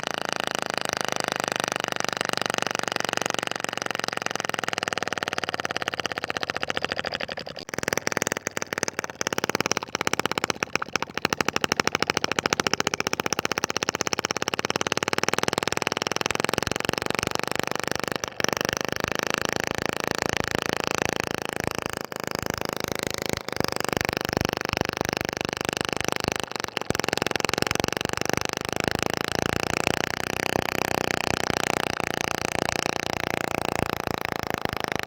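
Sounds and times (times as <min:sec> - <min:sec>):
small gasoline engine running: 0:00.0 - 0:35.0.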